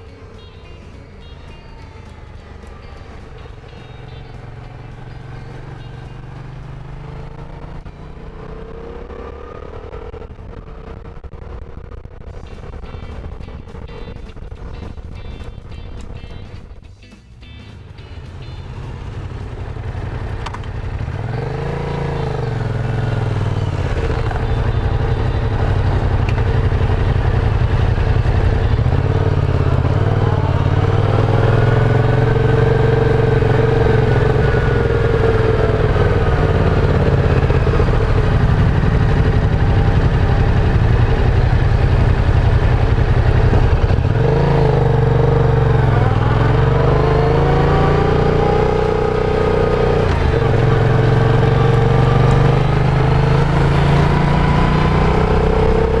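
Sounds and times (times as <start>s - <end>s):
motorcycle engine accelerating: 0.0s - 16.8s, 17.9s - 56.0s.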